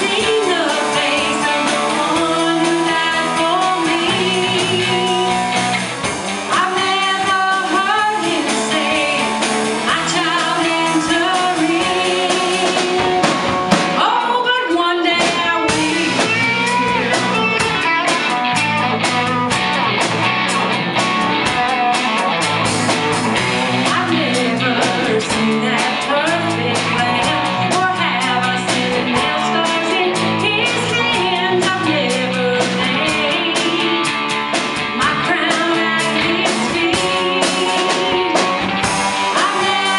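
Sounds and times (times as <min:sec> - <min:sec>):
steady drum beat: 0:00.0 - 0:14.2, 0:15.1 - 0:39.9
guitar: 0:00.0 - 0:39.9
vocal group singing rock song: 0:00.0 - 0:39.9.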